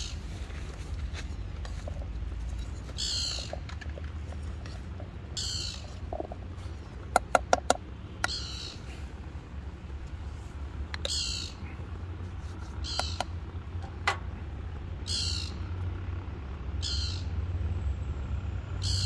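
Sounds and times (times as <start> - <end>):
bird calling: 0.0 - 16.0, 16.8 - 17.4.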